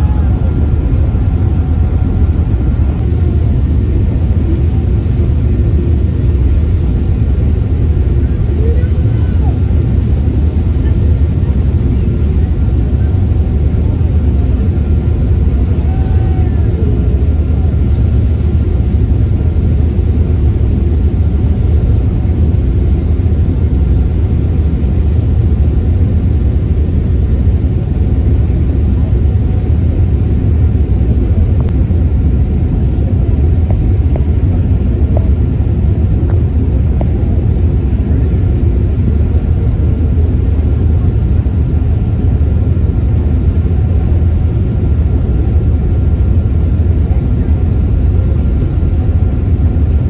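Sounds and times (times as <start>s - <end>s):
ferry engine rumble: 0.0s - 50.0s.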